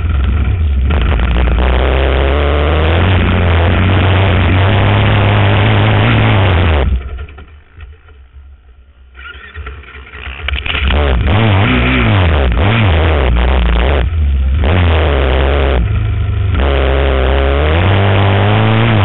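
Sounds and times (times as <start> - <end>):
quad engine revving: 0.0 - 8.0, 9.2 - 19.0.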